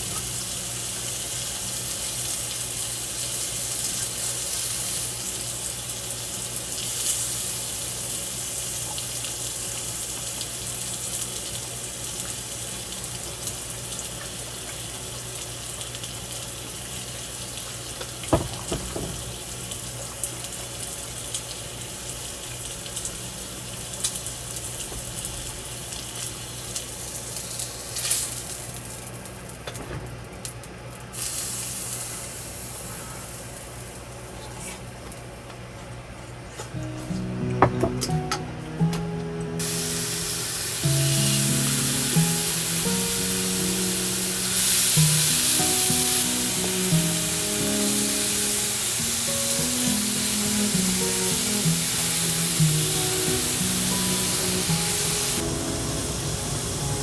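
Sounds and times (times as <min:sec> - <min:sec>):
meat sizzling on a grill: 0:00.0 - 0:35.0, 0:37.0 - 0:57.0.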